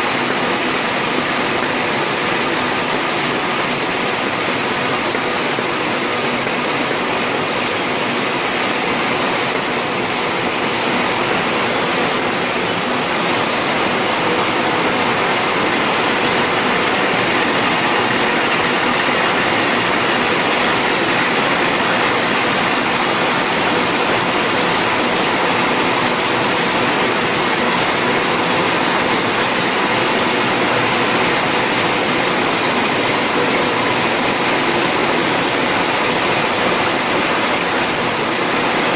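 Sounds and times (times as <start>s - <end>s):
envelope machine running: 0.0s - 38.9s.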